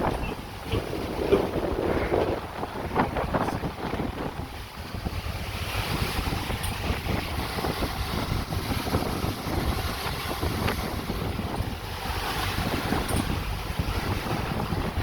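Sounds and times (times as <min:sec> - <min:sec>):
choppy water rushing: 0:00.0 - 0:15.0
wind buffeting microphone: 0:00.0 - 0:15.0.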